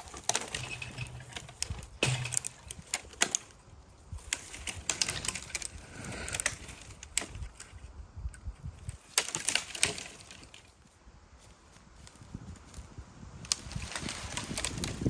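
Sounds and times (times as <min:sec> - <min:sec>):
branches cracking and snapping: 0:00.0 - 0:07.8, 0:08.6 - 0:15.0.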